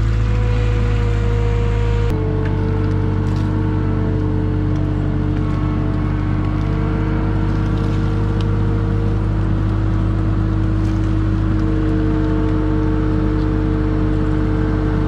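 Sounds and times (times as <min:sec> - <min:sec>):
watercraft engine running: 0:00.0 - 0:15.0.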